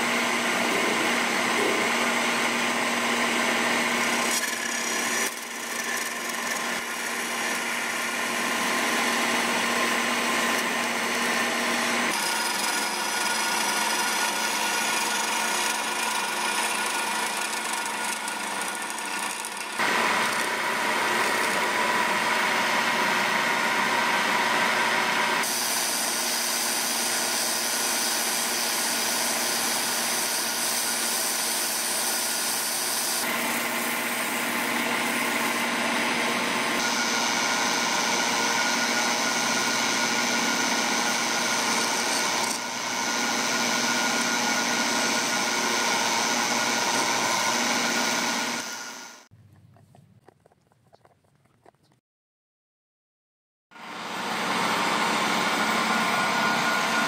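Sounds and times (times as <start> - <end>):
turning tool cutting wood: 0.0 - 24.6, 25.4 - 49.3
wood lathe humming: 0.0 - 49.3.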